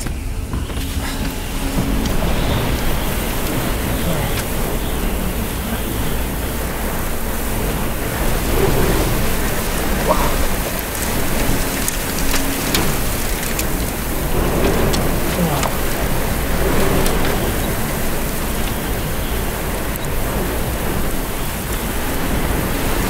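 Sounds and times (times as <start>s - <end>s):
strong gusty wind: 0.0s - 23.0s.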